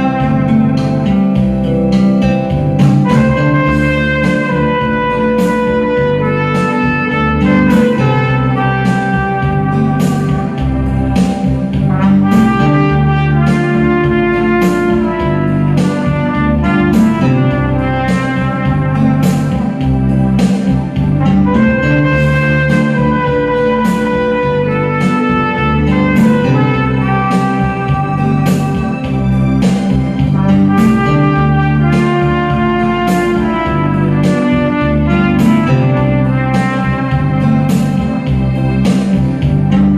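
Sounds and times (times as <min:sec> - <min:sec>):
guitar: 0:00.0 - 0:39.9
steady beat: 0:00.0 - 0:39.9
trumpet melody: 0:00.0 - 0:39.9.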